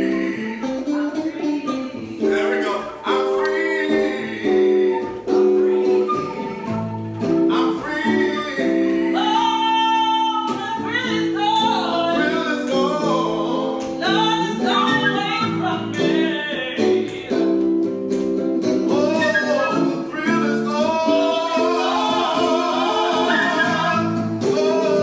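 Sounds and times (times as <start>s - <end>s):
electric guitar: 0.0s - 25.0s
person singing blues: 0.0s - 25.0s.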